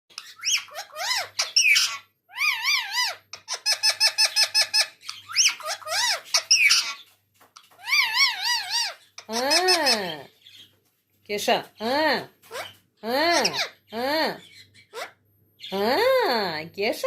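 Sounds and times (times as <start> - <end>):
parrot squeaky calls: 0.1 - 10.7, 12.4 - 15.9.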